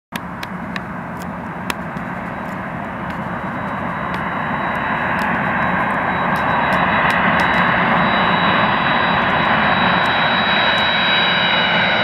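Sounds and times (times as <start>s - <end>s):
high engine whine: 0.1s - 12.0s
jet engines rushing: 0.2s - 12.0s.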